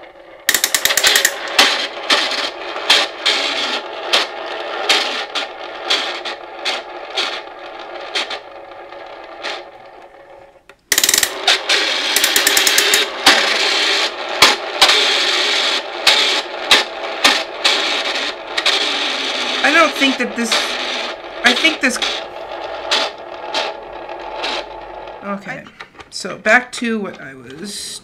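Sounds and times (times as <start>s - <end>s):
clock gears clicking and rattling: 0.4s - 25.2s.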